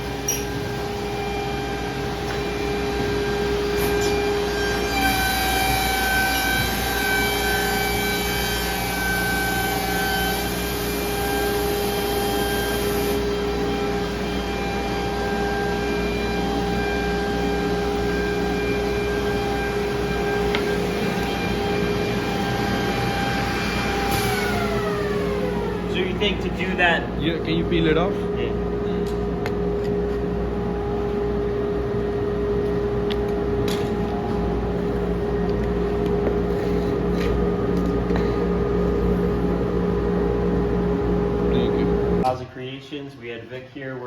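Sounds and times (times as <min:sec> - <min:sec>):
machine motor whine: 0:00.0 - 0:42.5.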